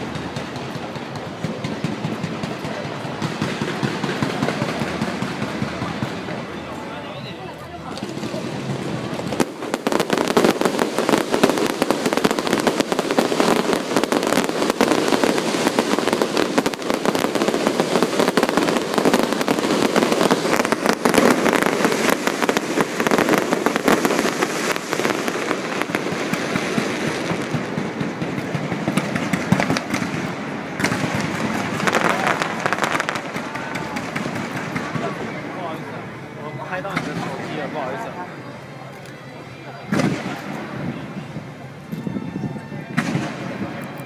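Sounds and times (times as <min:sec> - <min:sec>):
fireworks crackling bangs and pops: 0:00.0 - 0:38.4, 0:39.9 - 0:42.1, 0:42.9 - 0:44.0.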